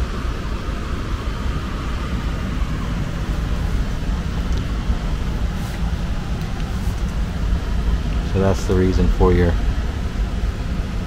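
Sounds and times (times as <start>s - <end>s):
blower air rushing and whistling: 0.0s - 11.0s.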